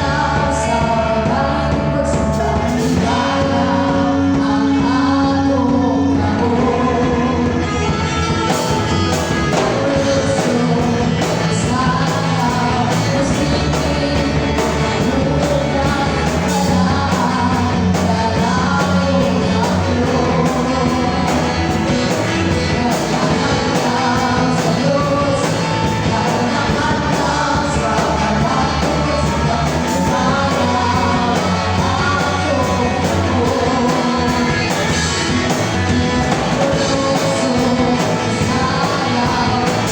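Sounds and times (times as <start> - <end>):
lead vocal singing: 0.0 - 39.9
rock band playing: 0.0 - 39.9
drum kit and cymbals: 7.9 - 39.9.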